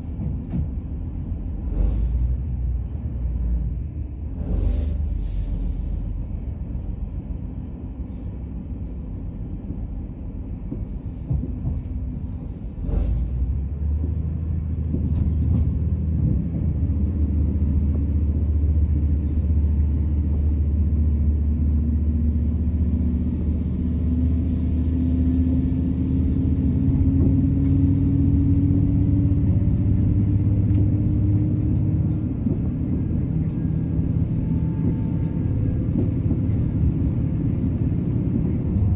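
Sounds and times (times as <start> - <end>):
train rumble inside carriage: 0.0 - 38.9.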